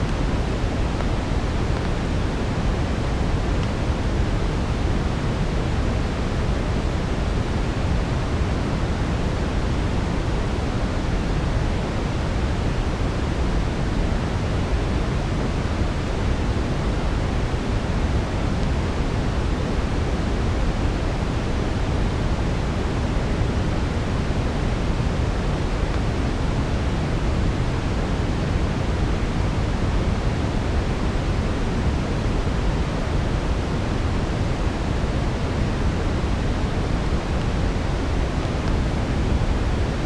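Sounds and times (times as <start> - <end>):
brown noise hiss: 0.0 - 40.0.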